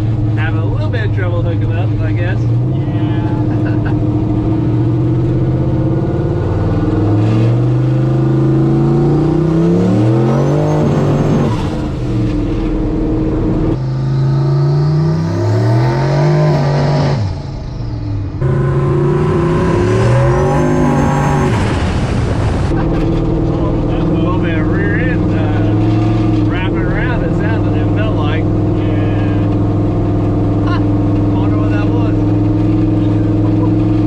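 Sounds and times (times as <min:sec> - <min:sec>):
truck engine revving hard: 0:00.0 - 0:34.0.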